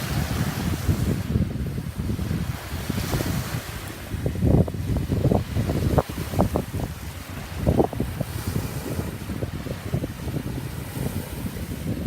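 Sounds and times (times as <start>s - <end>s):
waves washing onto shore: 0.0s - 12.0s
wind buffeting microphone: 0.0s - 12.0s.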